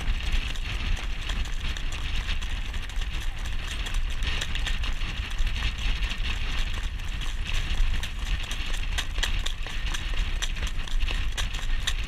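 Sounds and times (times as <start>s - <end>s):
horse hooves clip-clopping: 0.0s - 12.0s
low rumble of wind and cart: 0.0s - 12.0s.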